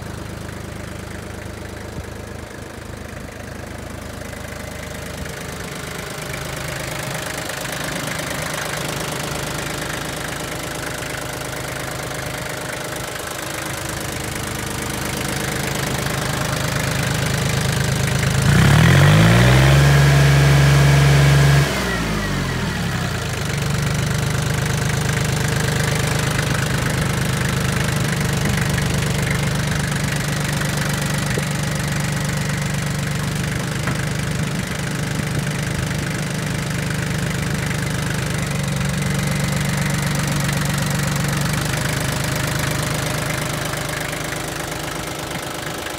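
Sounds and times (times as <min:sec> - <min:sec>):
tractor diesel engine idling and revving: 0:00.0 - 0:45.9.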